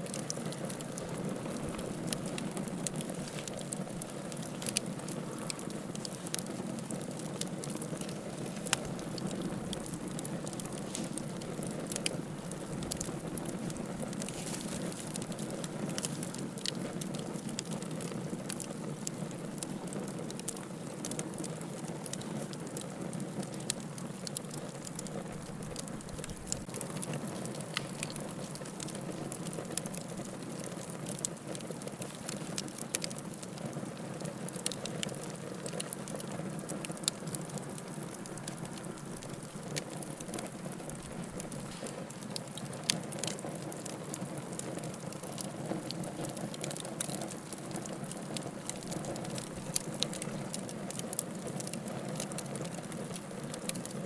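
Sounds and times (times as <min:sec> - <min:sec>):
firewood crackling and popping: 0:00.0 - 0:54.0
hissing flames: 0:00.0 - 0:54.0.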